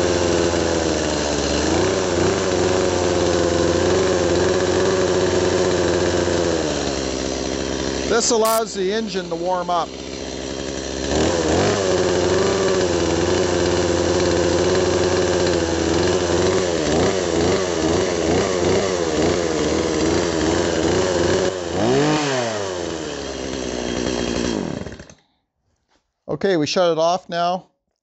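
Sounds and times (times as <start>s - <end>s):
chainsaw engine idling: 0.0s - 25.3s
chainsaw engine revving: 0.0s - 25.3s.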